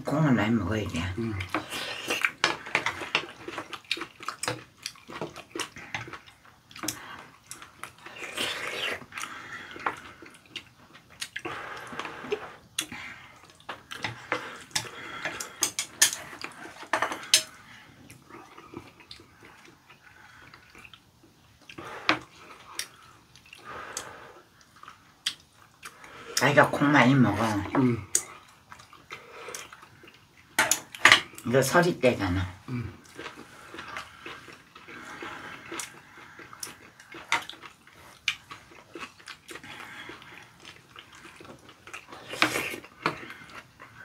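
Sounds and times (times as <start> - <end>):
person chewing: 1.3 - 31.5, 32.6 - 44.0.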